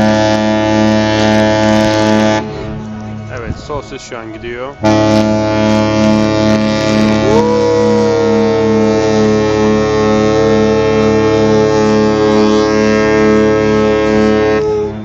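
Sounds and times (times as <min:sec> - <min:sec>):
ship horn blast: 0:00.0 - 0:15.0.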